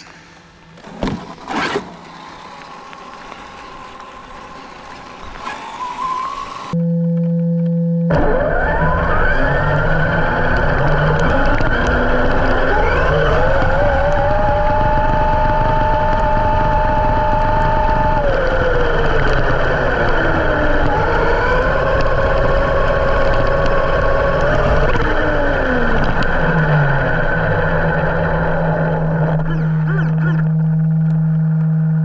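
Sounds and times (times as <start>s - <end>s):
low steady hum: 0.0s - 32.0s
electric motor whine: 1.4s - 32.0s.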